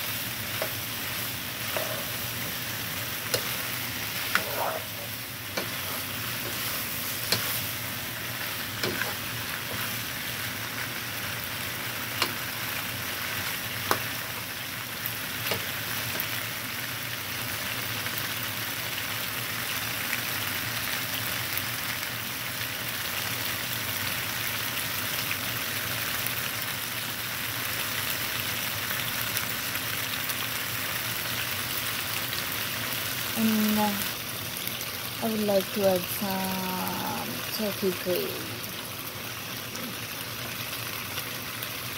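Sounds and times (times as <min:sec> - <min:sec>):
food sizzling in frying pan: 0:00.0 - 0:41.9.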